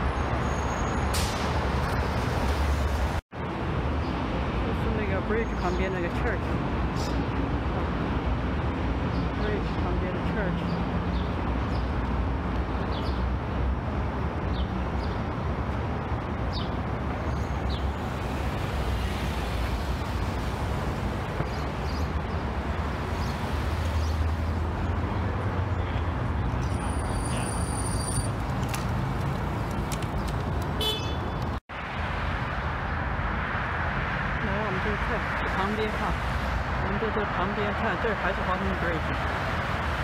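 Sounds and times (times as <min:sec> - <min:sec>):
road traffic hum: 0:00.0 - 0:40.0.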